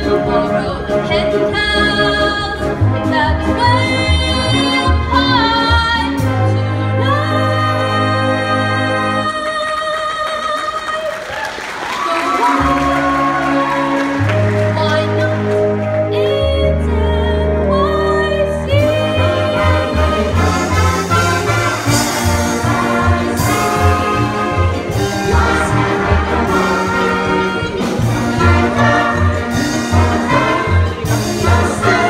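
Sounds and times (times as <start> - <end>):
brass orchestra playing show tune: 0.0 - 10.0, 11.1 - 32.0.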